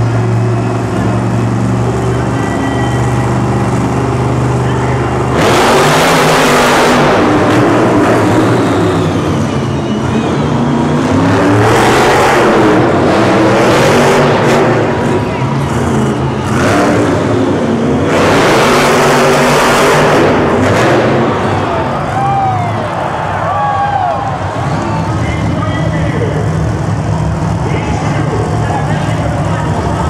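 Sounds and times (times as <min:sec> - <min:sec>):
truck engine idling and revving: 0:00.0 - 0:30.0.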